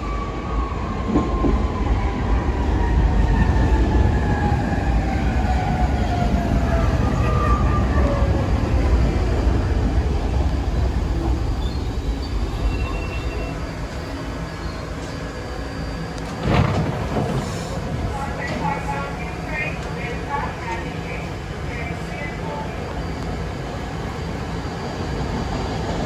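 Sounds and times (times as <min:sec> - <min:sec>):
subway train rumble: 0:00.0 - 0:26.0.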